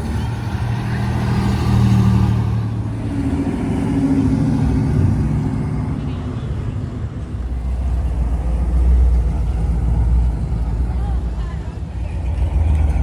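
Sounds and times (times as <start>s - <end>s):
deep car engine passing: 0.0s - 13.0s.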